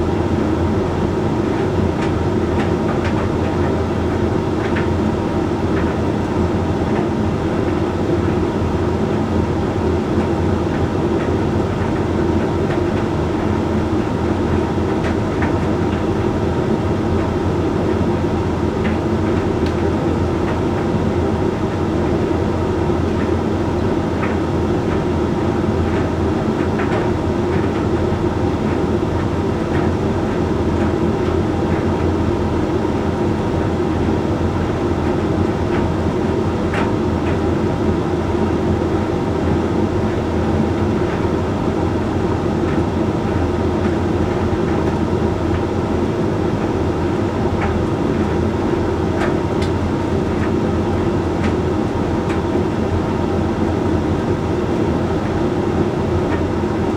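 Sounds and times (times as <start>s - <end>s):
tumble dryer humming and rumbling: 0.0s - 56.9s.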